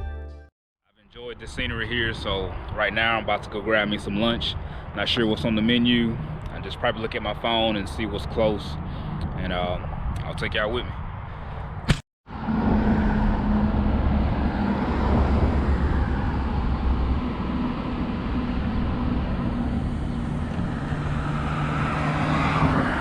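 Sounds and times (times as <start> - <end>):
wind and road noise: 1.1 - 23.0.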